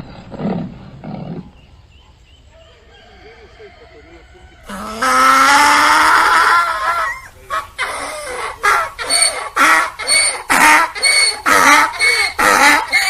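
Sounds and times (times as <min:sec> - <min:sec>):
donkey braying: 0:02.5 - 0:13.0.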